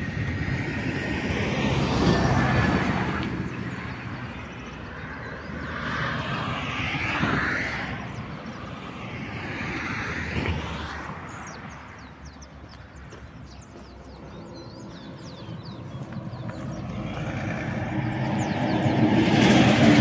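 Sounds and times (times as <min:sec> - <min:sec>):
vehicles passing on highway: 0:00.0 - 0:20.0.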